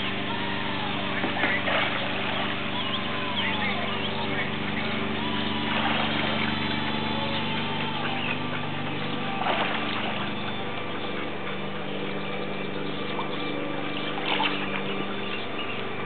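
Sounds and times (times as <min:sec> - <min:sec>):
mechanical hum: 0:00.0 - 0:16.0
swimmer splashing water: 0:00.0 - 0:16.0.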